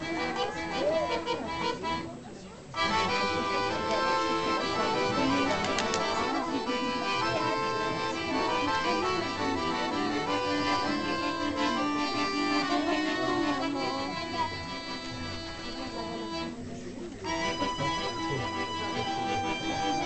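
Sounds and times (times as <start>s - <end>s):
accordion playing: 0.0s - 20.0s.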